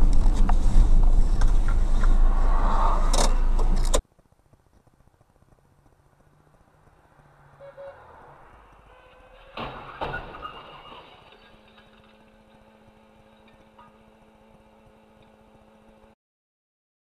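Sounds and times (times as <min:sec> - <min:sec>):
car road and engine rumble: 0:00.0 - 0:16.2.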